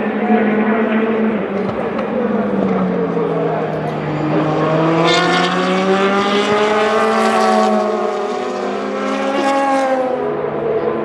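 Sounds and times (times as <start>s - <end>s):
racing car engines passing: 0.0s - 11.0s.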